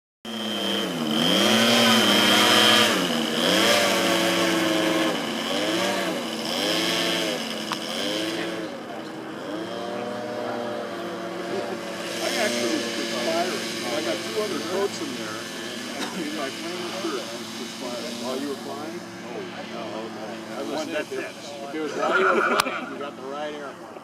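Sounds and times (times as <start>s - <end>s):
model plane engines droning: 0.3s - 24.0s.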